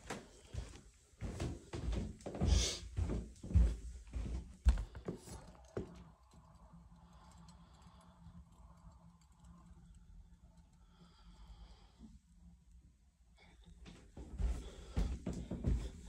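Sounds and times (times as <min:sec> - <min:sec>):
faint steady hum: 0:03.0 - 0:16.0.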